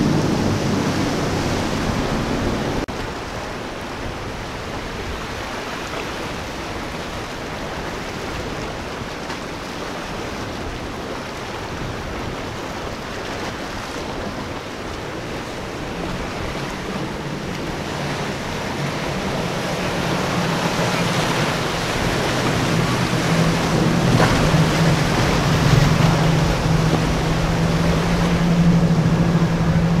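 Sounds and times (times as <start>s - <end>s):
boat engine humming: 0.0s - 30.0s
surf and wind-blown chop: 0.0s - 30.0s.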